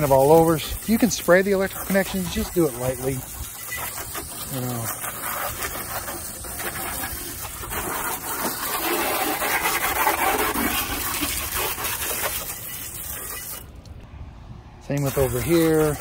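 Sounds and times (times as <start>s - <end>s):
hose spraying water on plastic: 0.0s - 14.0s, 14.9s - 16.0s.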